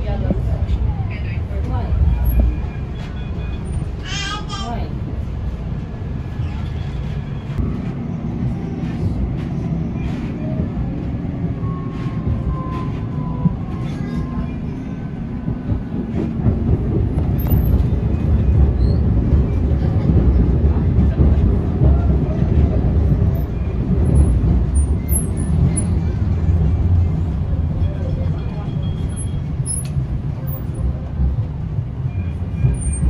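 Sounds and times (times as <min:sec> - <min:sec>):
tram wheels rumbling on rails: 0:00.0 - 0:33.0.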